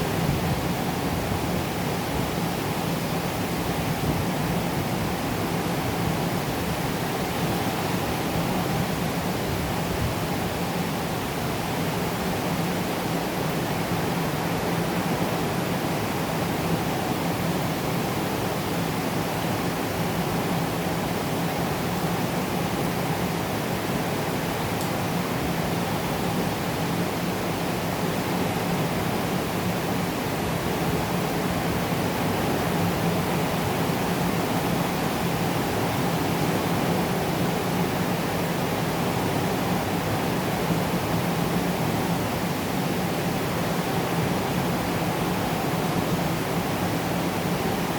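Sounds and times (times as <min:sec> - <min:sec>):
rain falling steadily: 0:00.0 - 0:47.9.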